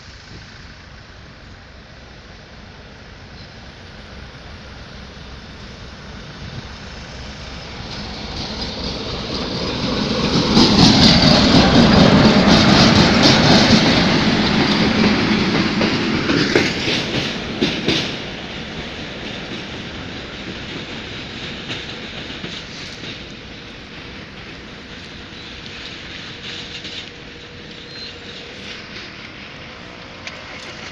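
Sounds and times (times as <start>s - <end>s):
diesel train passing: 0.0s - 30.9s.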